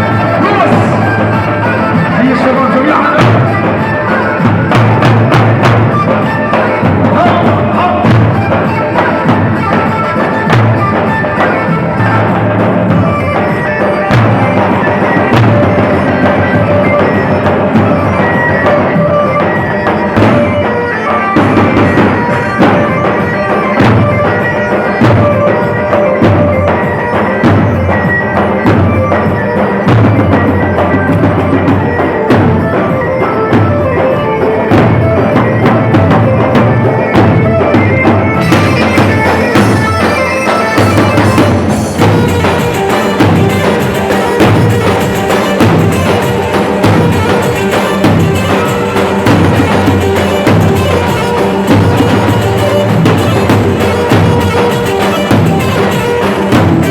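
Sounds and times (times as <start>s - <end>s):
reedy wind instrument melody: 0.0s - 56.9s
steady drum beat: 0.0s - 56.9s.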